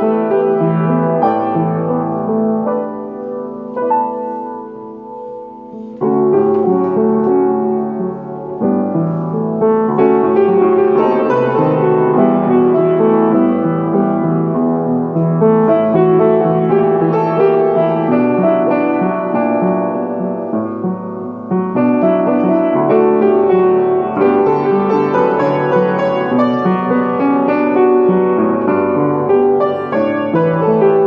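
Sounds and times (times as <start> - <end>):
slow piano ballad: 0.0 - 31.0.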